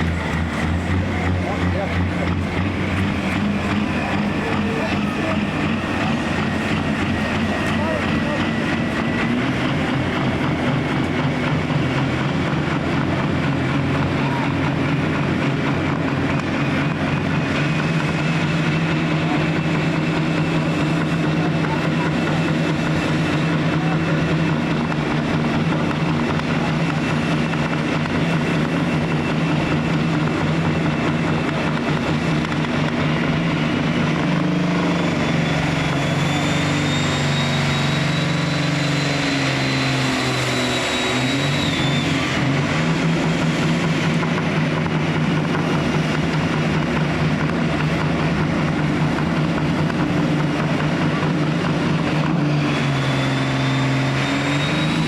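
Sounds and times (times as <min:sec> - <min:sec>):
heavy diesel engine running: 0:00.0 - 0:55.0
high whine: 0:00.0 - 0:55.0.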